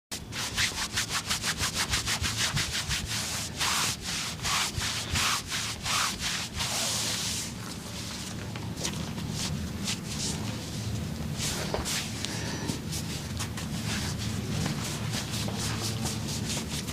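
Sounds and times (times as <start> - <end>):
rubbing strokes: 0.2 - 8.3, 9.2 - 16.9.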